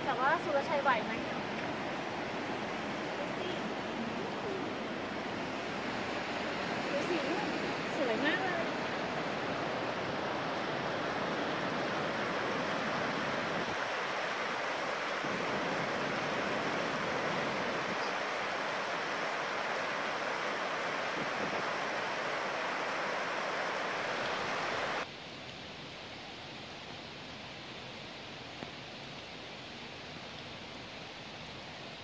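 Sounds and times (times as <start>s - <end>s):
river water running over rocks: 0.0s - 32.0s.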